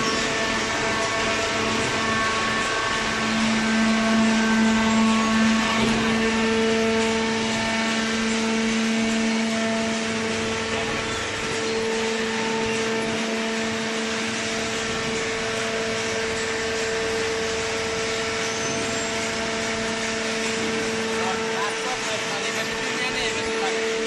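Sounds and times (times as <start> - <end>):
electric motor and pump humming: 0.0 - 24.0.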